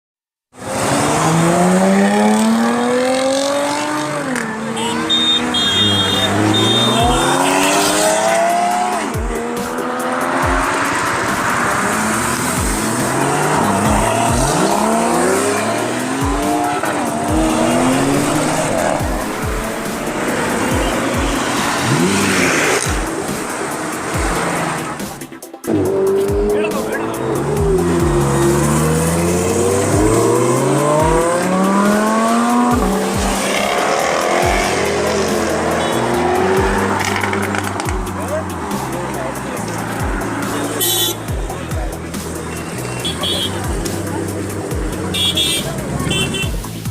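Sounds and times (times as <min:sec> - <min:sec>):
car engines revving: 0:00.5 - 0:46.9
music with deep bass beat: 0:06.1 - 0:46.9.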